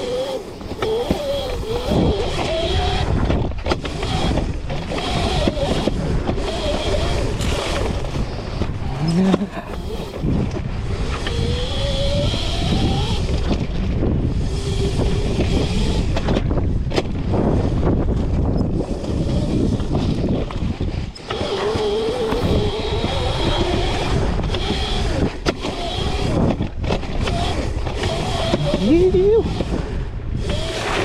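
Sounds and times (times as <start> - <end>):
electric motor whining: 0.0 - 31.0
heavy wind: 0.0 - 31.0
tyres rumbling on dirt: 0.0 - 31.0.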